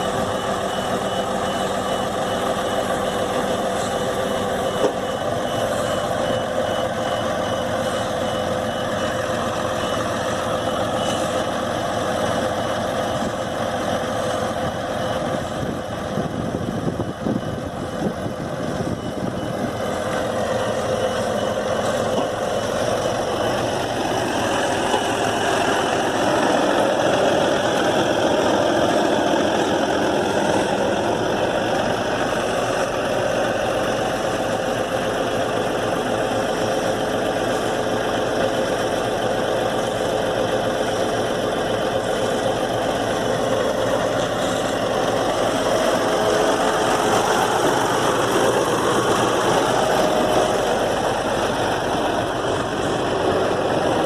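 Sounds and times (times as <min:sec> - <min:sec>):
truck diesel engine idling: 0:00.0 - 0:54.0.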